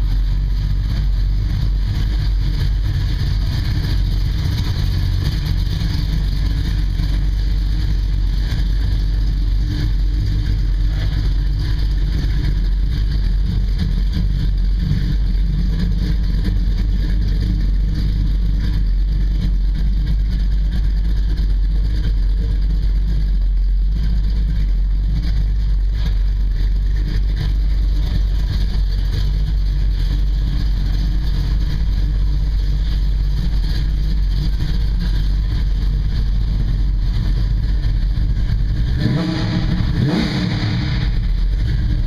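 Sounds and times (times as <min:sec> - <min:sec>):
car engine running: 0:00.0 - 0:42.0.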